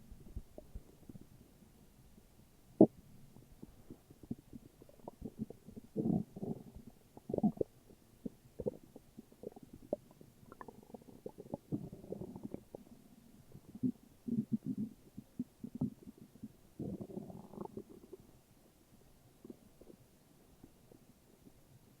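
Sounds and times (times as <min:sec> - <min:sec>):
stomach growling and gurgling: 0:00.2 - 0:01.6, 0:02.8 - 0:18.4, 0:19.4 - 0:22.0.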